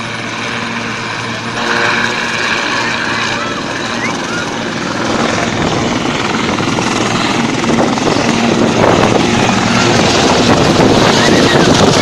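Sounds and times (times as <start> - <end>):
helicopter lifting off: 0.0 - 12.0.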